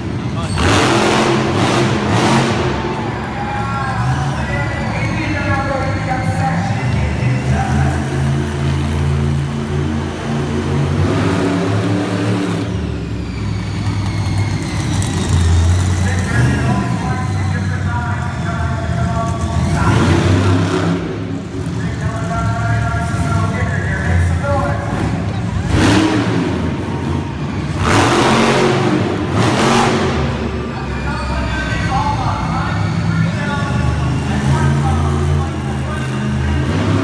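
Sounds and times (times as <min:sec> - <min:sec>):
monster truck engine revving: 0:00.0 - 0:37.0.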